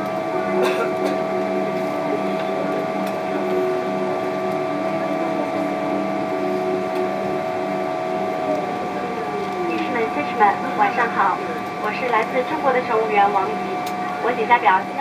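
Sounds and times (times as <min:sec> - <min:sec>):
aircraft cabin ventilation hum: 0:00.0 - 0:15.0.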